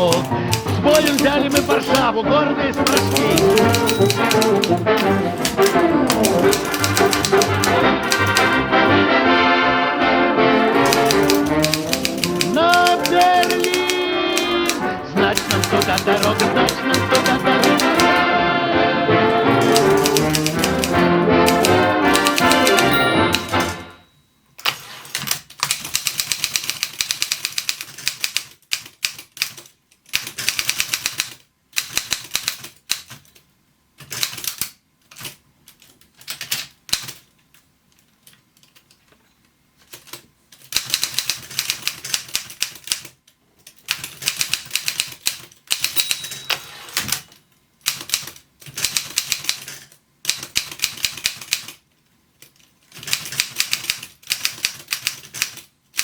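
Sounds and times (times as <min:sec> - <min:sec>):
typewriter keystrokes: 0:00.0 - 0:02.1, 0:02.8 - 0:08.6, 0:10.8 - 0:18.2, 0:19.6 - 0:23.8, 0:24.6 - 0:33.4, 0:34.0 - 0:37.3, 0:39.9 - 0:51.8, 0:52.5 - 0:56.0.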